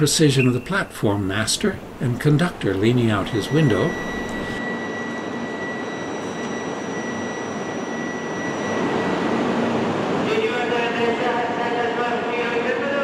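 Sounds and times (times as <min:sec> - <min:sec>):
thin high whine: 0:00.0 - 0:11.0
train equipment hum and hiss: 0:00.0 - 0:13.0.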